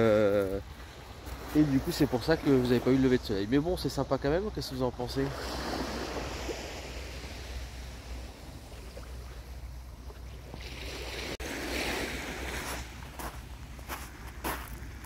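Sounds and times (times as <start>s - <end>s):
small waves washing: 0.2s - 15.0s.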